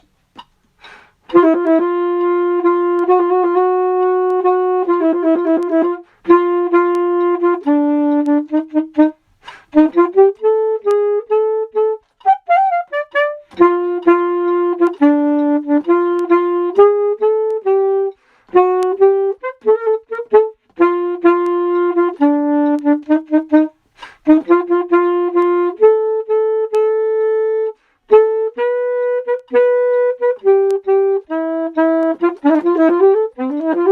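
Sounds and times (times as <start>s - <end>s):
woodwind melody: 0.8s - 33.9s.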